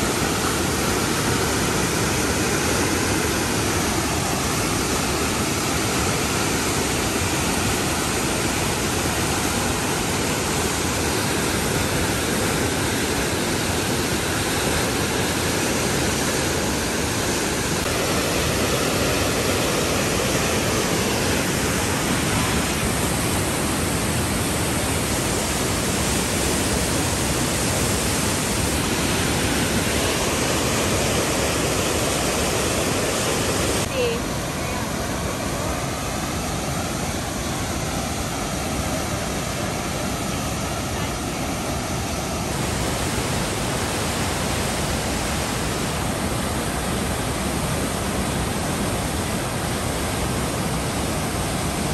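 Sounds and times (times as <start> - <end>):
river rapids rushing: 0.0 - 51.9.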